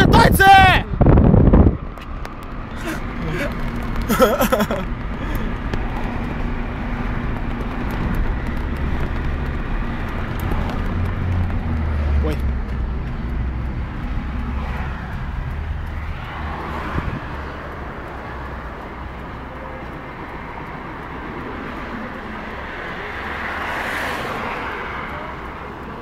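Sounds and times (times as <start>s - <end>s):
road and wind noise: 0.0s - 26.0s
low engine rumble: 0.9s - 26.0s.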